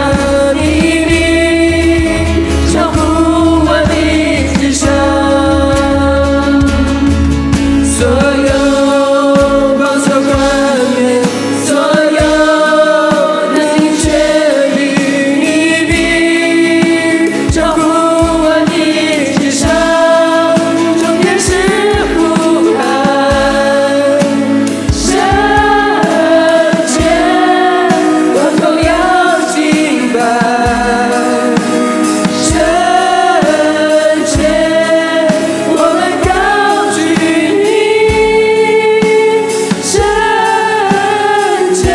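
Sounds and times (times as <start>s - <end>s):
band accompaniment: 0.0s - 41.9s
steady drum beat: 0.0s - 41.9s
voices singing together: 0.0s - 41.9s.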